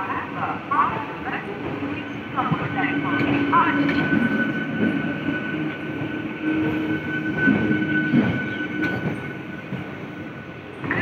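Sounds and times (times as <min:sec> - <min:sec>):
train coaches rumbling: 0:00.0 - 0:11.0.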